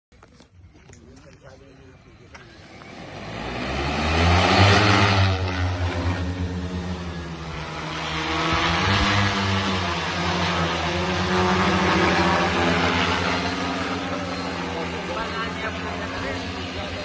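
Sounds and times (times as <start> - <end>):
drone rotors humming: 0.2 - 17.0.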